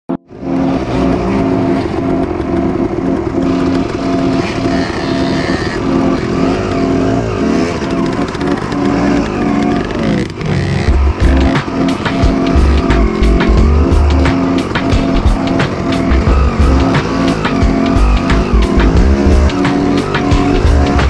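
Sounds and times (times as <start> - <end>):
engine revving: 0.1 - 21.0
dirt bike engines idling: 0.3 - 21.0.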